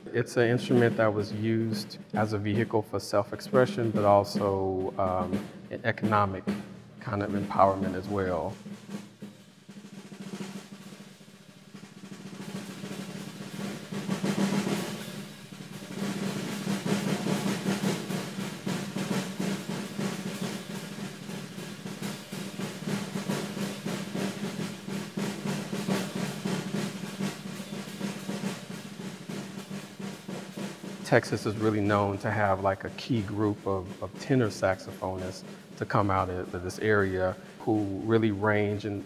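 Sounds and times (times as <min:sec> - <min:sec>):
snare drum rolls: 0:00.0 - 0:39.0.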